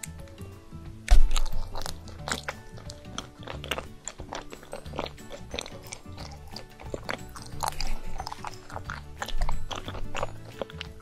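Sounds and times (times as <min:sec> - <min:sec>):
background music: 0:00.0 - 0:11.0
chewing and mouth smacks: 0:00.0 - 0:11.0.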